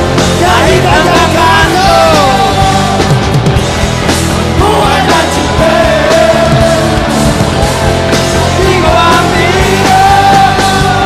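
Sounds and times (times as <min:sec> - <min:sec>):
rock band playing loudly: 0:00.0 - 0:11.0.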